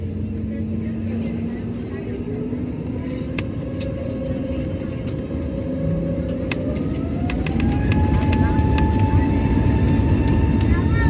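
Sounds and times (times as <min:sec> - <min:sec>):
jet engines spooling up: 0:01.0 - 0:11.0.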